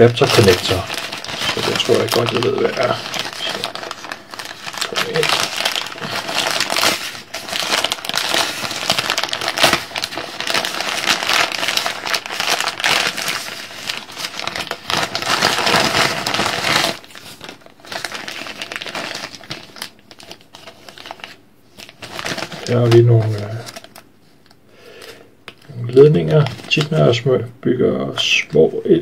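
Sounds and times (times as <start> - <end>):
plastic packaging crinkling: 0.0 - 29.0.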